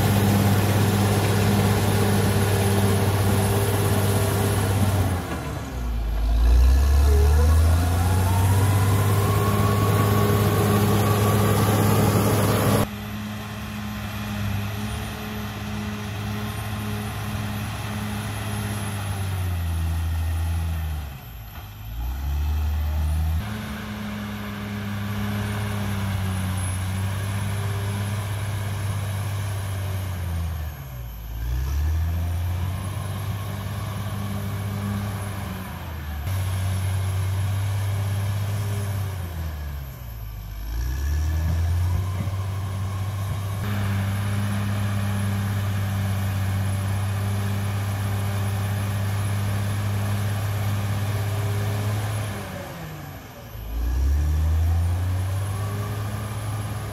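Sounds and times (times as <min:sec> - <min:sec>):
bulldozer diesel engine under load: 0:00.0 - 0:56.9.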